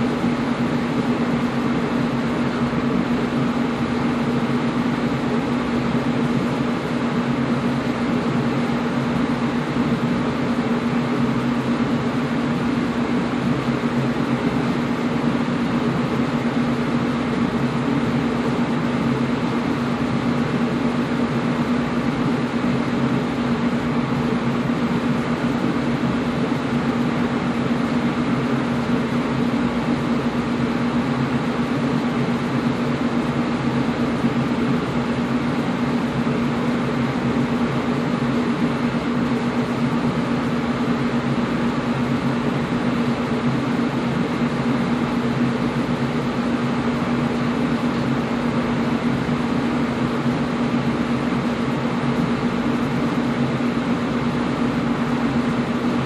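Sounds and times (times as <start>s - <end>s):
air conditioner airflow: 0.0s - 56.0s.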